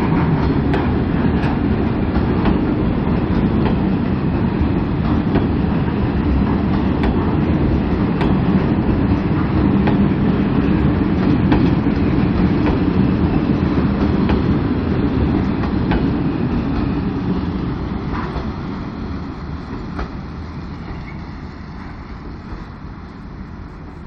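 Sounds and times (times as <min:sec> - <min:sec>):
train wheels knocking over rail joints: 0:00.0 - 0:22.8
freight train rolling past: 0:00.0 - 0:24.0.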